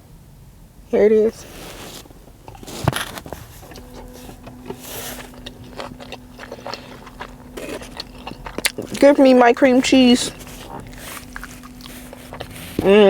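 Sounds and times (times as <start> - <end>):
faint steady hum: 0.0 - 13.0
person chewing food: 1.4 - 13.0.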